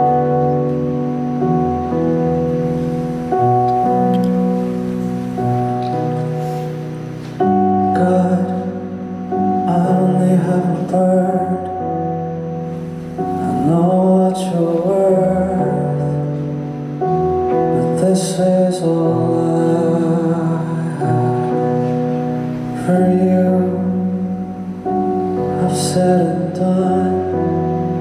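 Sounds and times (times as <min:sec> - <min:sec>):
sustained instrumental chords: 0:00.0 - 0:28.0.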